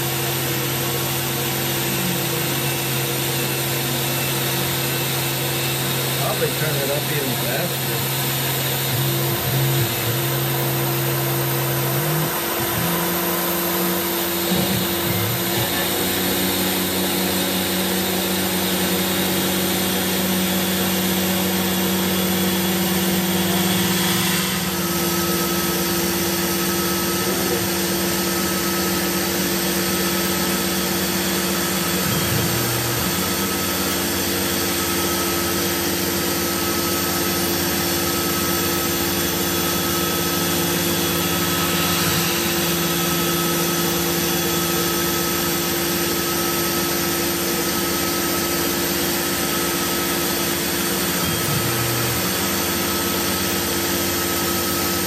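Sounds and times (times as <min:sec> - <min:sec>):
milling machine spindle hum: 0:00.0 - 0:55.0.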